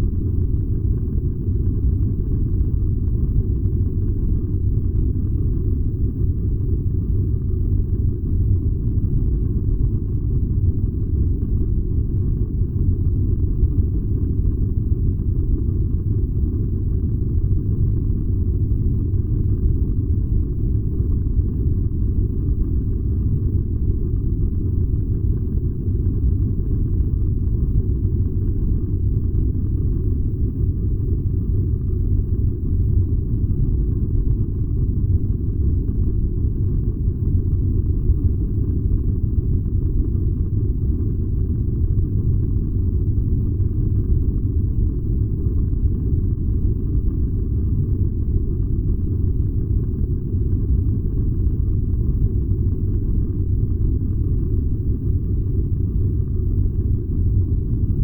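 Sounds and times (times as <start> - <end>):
furnace low rumble: 0.0 - 58.0.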